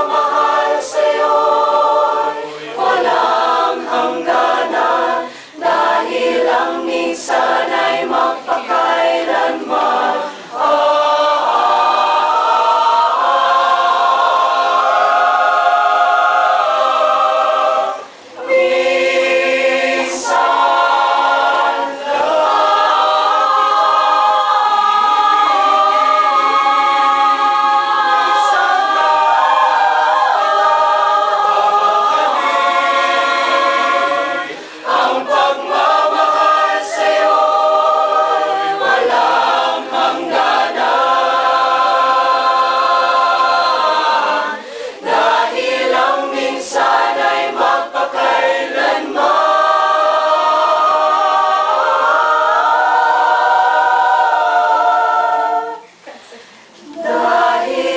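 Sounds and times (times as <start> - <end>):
mixed choir singing a cappella: 0.0 - 57.9.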